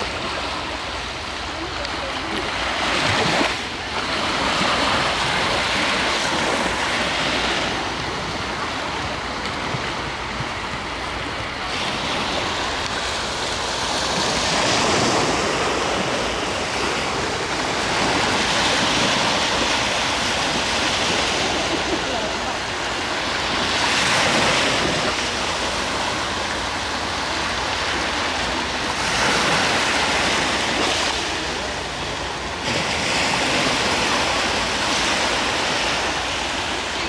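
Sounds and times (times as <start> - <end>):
waves breaking on beach: 0.0 - 37.0.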